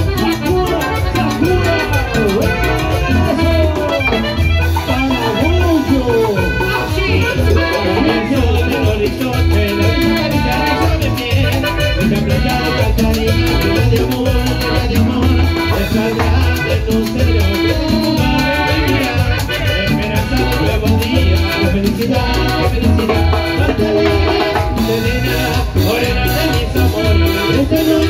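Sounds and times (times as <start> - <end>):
band playing dance beat: 0.0 - 28.0
electric bass: 0.0 - 28.0.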